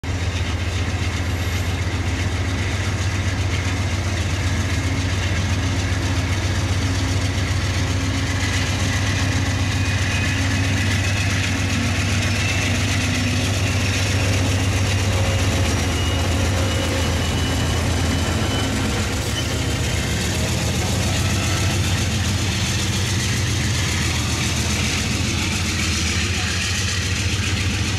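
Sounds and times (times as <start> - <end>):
diesel locomotive engine chugging: 0.0 - 27.9.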